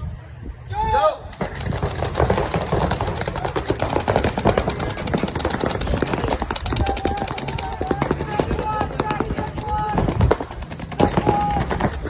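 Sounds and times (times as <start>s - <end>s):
paintball markers firing: 1.3s - 12.0s.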